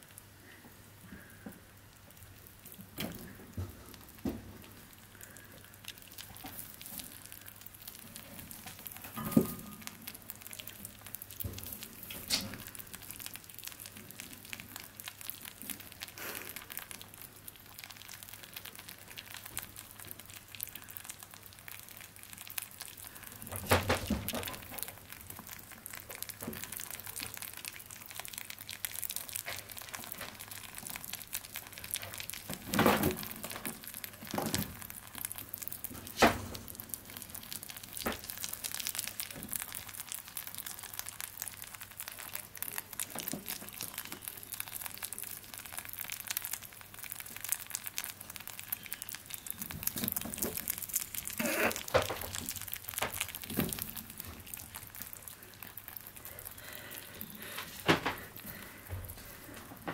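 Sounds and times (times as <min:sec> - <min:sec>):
rabbits chewing: 0:00.0 - 0:59.9.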